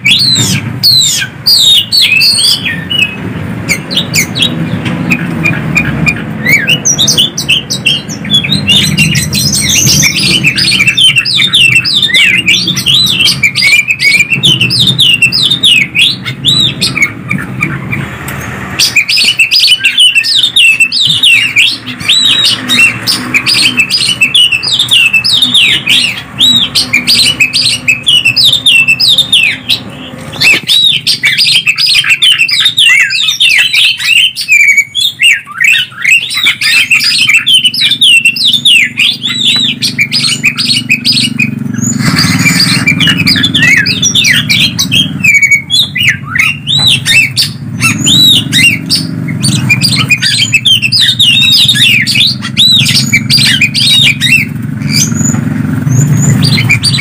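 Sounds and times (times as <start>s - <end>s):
birds singing whistles and chirps: 0.0s - 57.0s.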